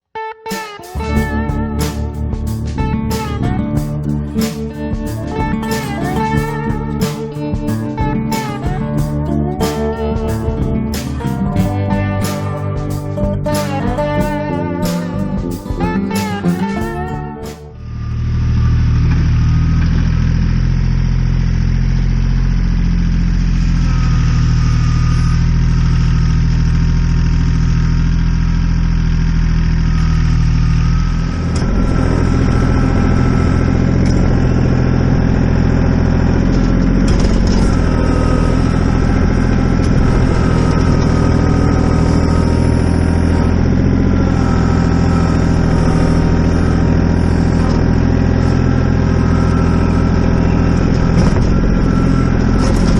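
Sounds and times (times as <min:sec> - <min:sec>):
engine running steadily: 0:01.0 - 0:52.9.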